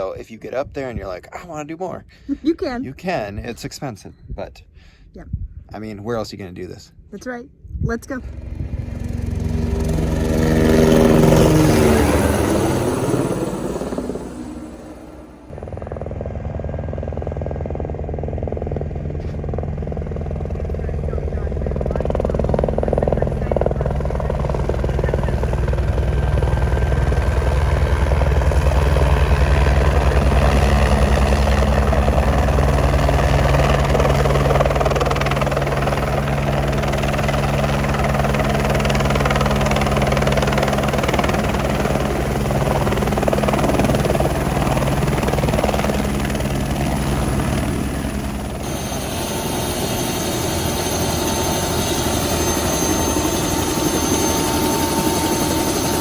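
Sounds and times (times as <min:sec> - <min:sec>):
helicopter rotor and turbine: 0:07.7 - 0:56.0
high helicopter whine: 0:08.0 - 0:56.0.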